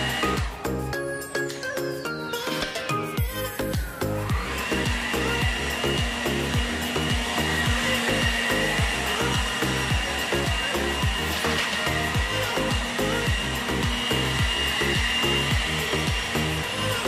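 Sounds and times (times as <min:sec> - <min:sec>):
electric leaf blower whining: 0:00.0 - 0:17.0
electronic music with steady beat: 0:00.0 - 0:17.0.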